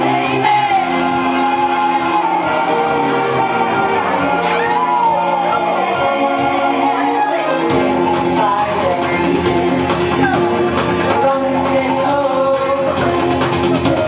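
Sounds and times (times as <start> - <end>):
person singing karaoke: 0.0 - 14.0
pop backing track: 0.0 - 14.0.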